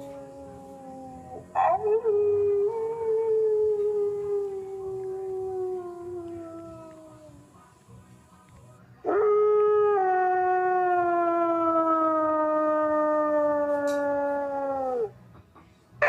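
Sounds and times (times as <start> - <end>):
wolf howling: 0.0 - 7.6, 9.1 - 15.1.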